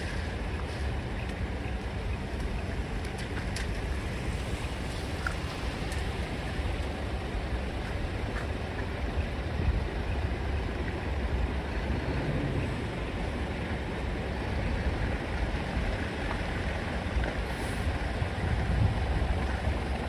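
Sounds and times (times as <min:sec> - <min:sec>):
truck engines rumbling: 0:00.0 - 0:20.0.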